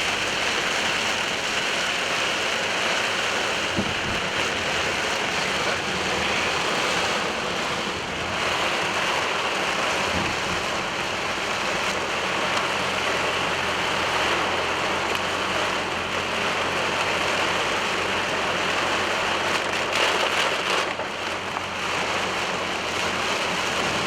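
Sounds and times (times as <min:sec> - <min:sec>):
rain hitting a car: 0:00.0 - 0:24.0
tyres hissing on wet road: 0:00.0 - 0:24.0.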